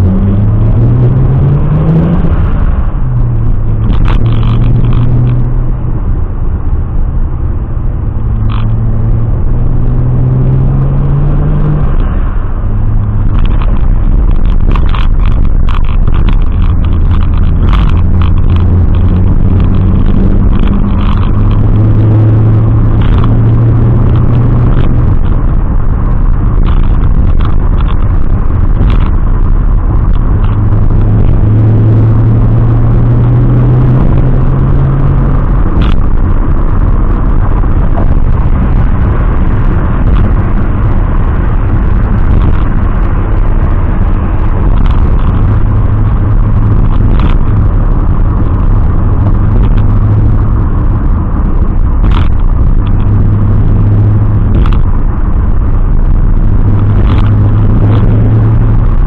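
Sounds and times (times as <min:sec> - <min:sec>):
car engine running: 0:00.0 - 0:59.0
road rumble: 0:00.0 - 0:59.0.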